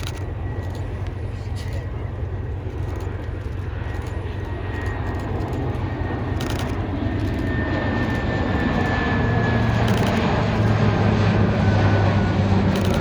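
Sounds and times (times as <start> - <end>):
turboprop aircraft droning: 0.0 - 13.0.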